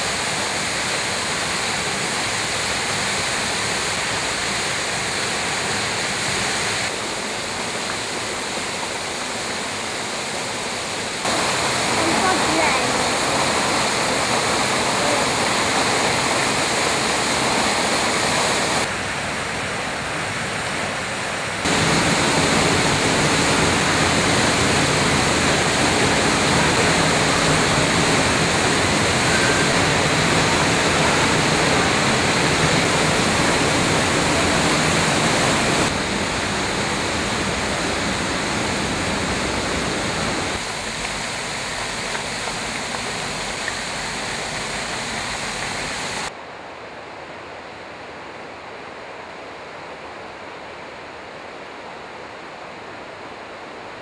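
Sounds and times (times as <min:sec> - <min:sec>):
waterfall rushing: 0:00.0 - 0:46.4.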